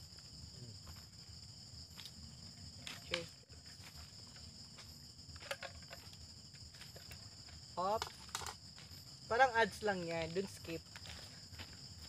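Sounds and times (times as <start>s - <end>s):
insect chorus chirring: 0.0s - 12.0s.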